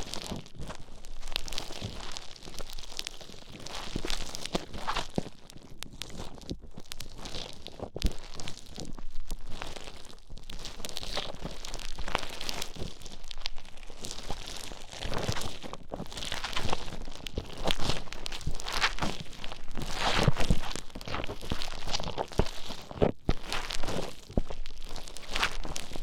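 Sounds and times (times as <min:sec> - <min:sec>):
foam crackling and squishing: 0:00.0 - 0:26.0.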